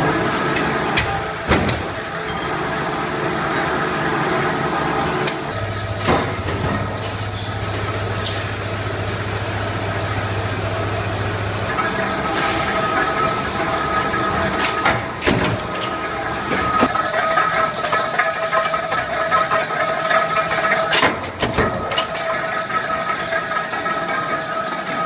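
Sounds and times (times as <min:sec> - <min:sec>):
stamping press machine hum: 0:00.0 - 0:25.0.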